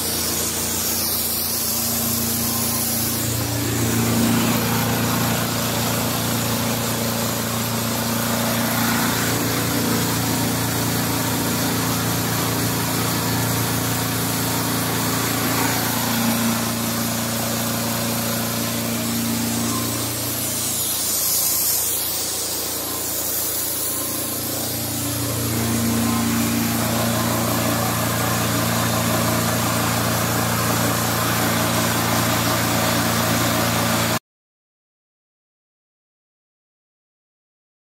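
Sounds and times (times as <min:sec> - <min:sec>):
steam hissing from spray lance: 0:00.0 - 0:34.0
diesel engine running: 0:00.0 - 0:34.2.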